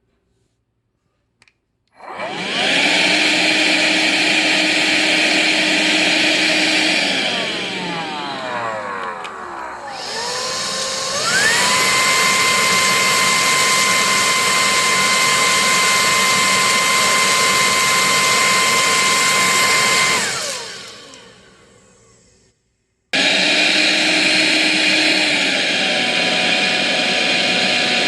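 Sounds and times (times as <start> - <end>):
stick vacuum motor whining: 2.0 - 22.3, 23.2 - 28.0.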